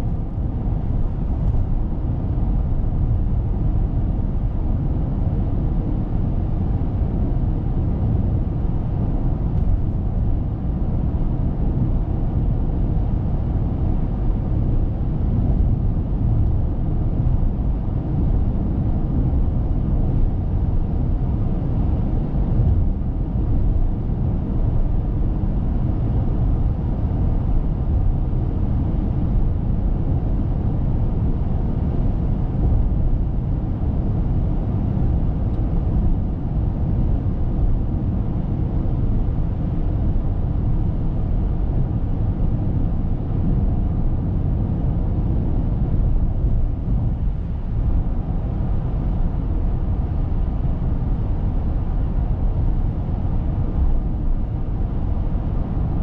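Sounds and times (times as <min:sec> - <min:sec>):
road and wind noise inside car: 0:00.0 - 0:56.0.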